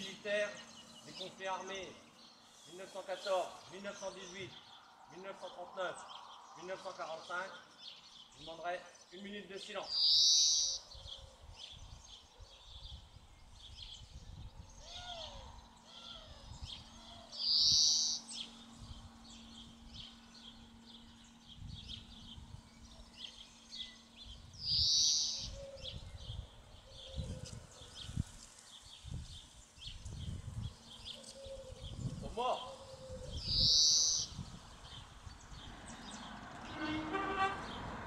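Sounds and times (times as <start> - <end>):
loud bird song phrase: 0.0 - 38.0
songbirds chirping: 0.0 - 38.0.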